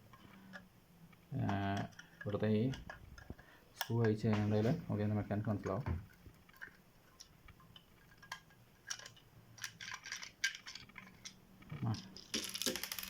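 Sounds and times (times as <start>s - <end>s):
small clicks and scrapes of parts: 0.1s - 4.8s, 5.6s - 13.0s.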